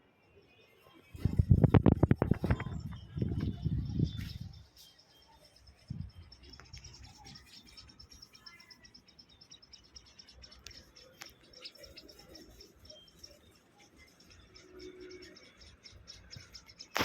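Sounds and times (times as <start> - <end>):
bird chicks chirping: 0.7 - 17.0.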